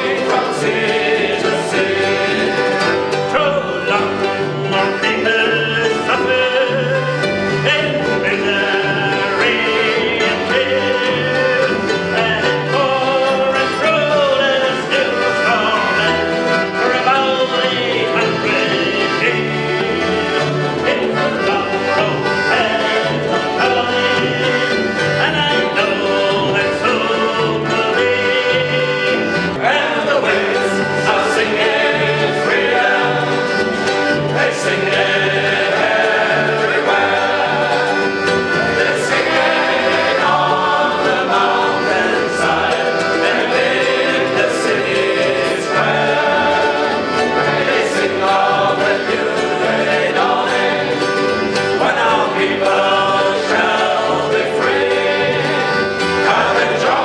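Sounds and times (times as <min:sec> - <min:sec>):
accordion: 0:00.0 - 0:57.0
mandolin: 0:00.0 - 0:57.0
men singing together: 0:00.0 - 0:57.0
strummed acoustic guitars: 0:00.0 - 0:57.0.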